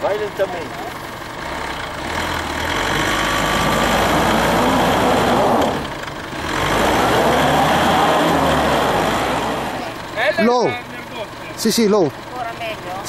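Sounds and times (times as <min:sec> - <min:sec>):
truck engine pulling under load: 0:00.0 - 0:13.0.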